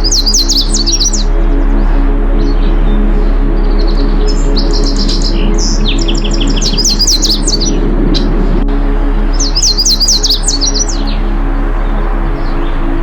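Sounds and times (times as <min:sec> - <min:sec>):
songbird singing: 0:00.0 - 0:13.0
steady low drone: 0:00.0 - 0:13.0.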